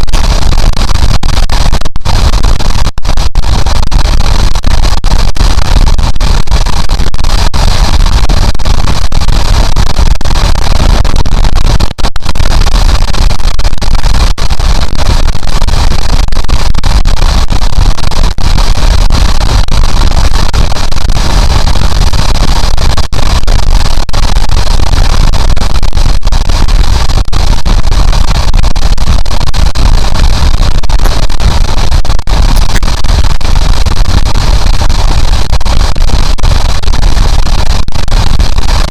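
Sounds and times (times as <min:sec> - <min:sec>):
distorted wind noise: 0:00.0 - 0:38.9.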